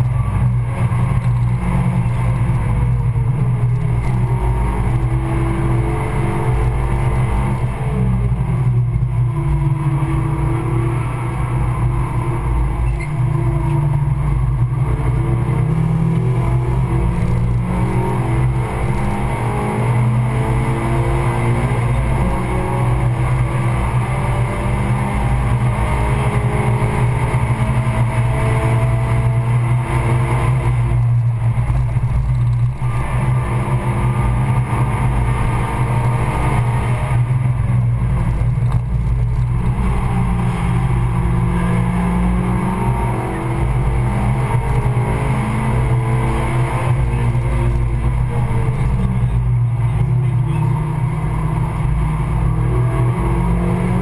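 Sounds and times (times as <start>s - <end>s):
car engine revving hard: 0.0s - 54.0s
road and tyre noise: 0.0s - 54.0s.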